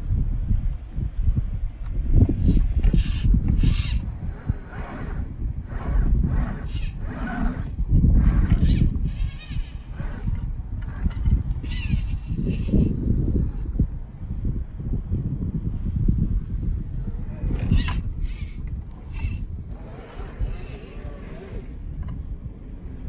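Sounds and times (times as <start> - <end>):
steady low rumble: 0.0 - 23.0
electric motor and gears whining: 2.1 - 23.0.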